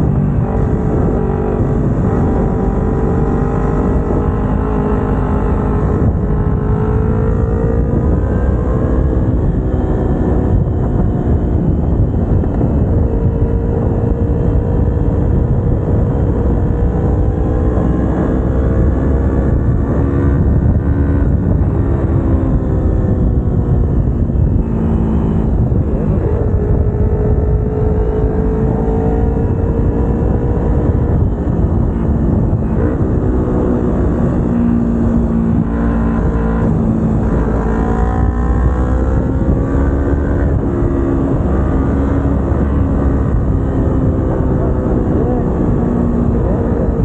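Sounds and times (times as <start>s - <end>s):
motorcycle engine running: 0.0s - 47.0s
wind rushing on microphone: 0.0s - 47.0s.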